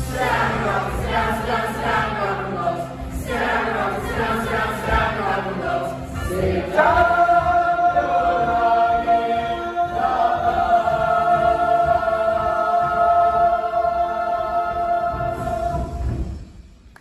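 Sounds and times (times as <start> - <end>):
chorus singing a held chord: 0.0 - 16.3.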